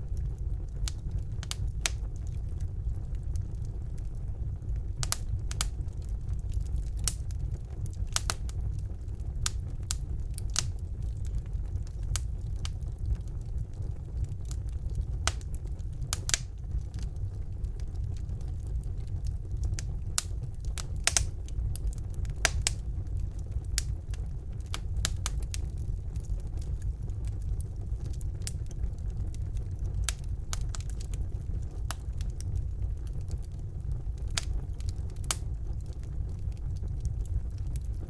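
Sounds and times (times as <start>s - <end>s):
burning logs crackling and popping: 0.0s - 38.0s
fire rumbling: 0.0s - 38.0s.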